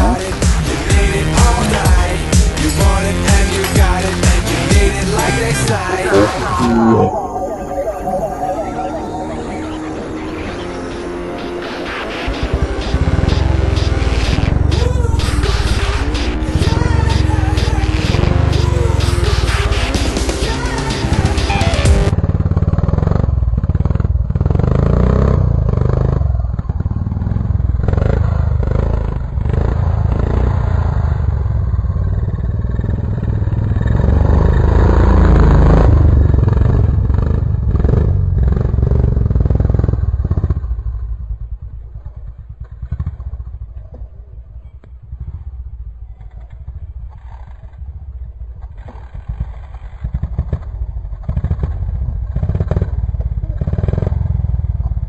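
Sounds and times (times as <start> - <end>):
dirt bike engine revving: 0.0 - 7.4, 9.6 - 55.0.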